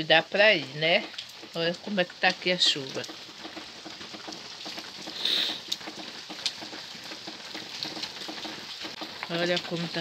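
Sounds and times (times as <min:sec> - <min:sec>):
heavy rain pattering: 0:00.0 - 0:10.0.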